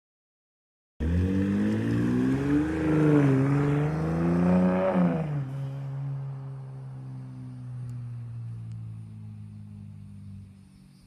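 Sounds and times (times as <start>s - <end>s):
engine revving through exhaust: 1.0s - 10.5s.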